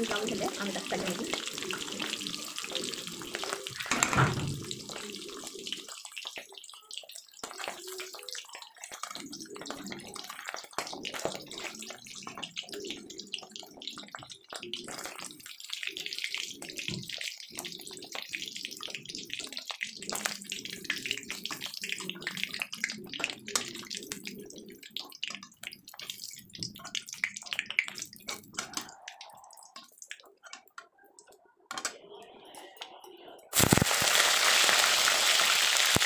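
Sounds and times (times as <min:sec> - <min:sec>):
food sizzling in hot oil: 0:00.0 - 0:30.7, 0:33.5 - 0:36.0.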